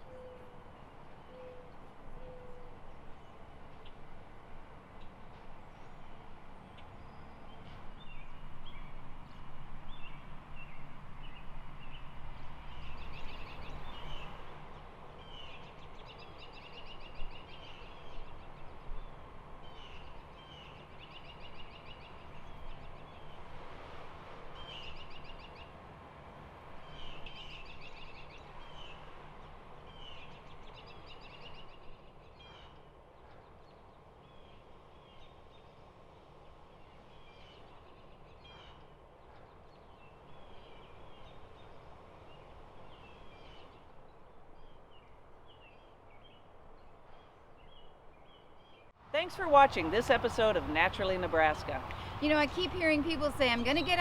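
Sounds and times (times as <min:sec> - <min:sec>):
outdoor background noise: 0:00.0 - 0:54.0
songbirds chirping: 0:00.0 - 0:54.0.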